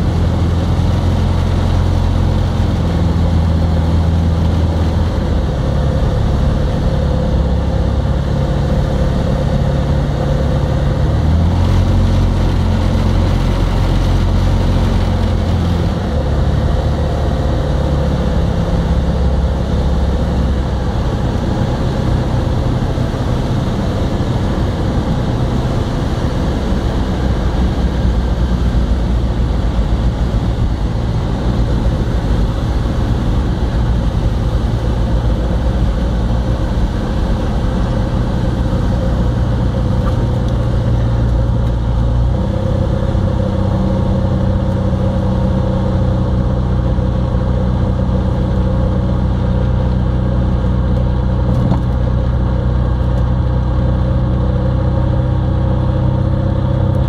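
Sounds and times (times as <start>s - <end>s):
propeller engine running: 0.0s - 57.0s.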